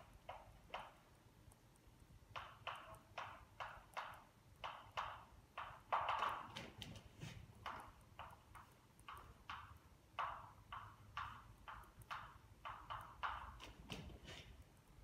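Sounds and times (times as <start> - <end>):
chalk tapping and scratching on blackboard: 2.3 - 14.9.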